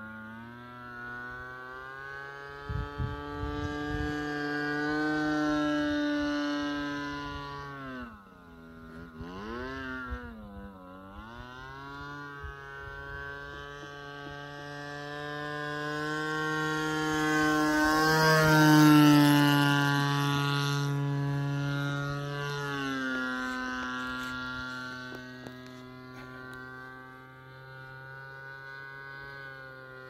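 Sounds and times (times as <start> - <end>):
model airplane engine and propeller: 0.0 - 30.0.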